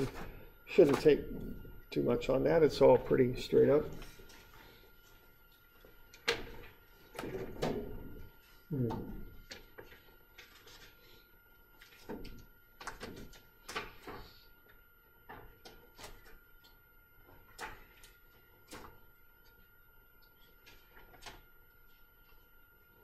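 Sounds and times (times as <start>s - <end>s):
faint electrical whine: 0.0s - 23.0s.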